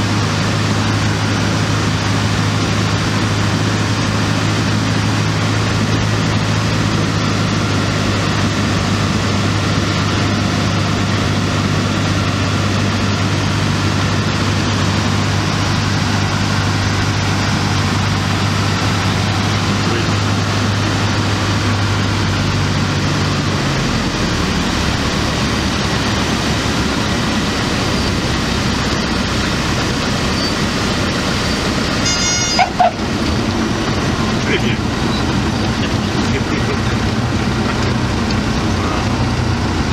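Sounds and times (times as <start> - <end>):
light aircraft engine droning: 0.0 - 39.9
rushing airflow: 0.0 - 39.9.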